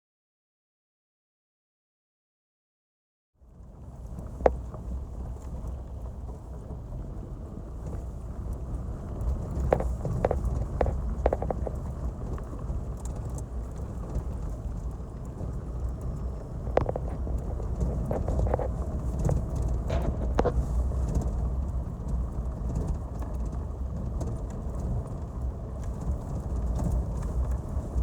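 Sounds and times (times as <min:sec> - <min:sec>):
vehicle engine and road rumble: 0:03.4 - 0:28.0.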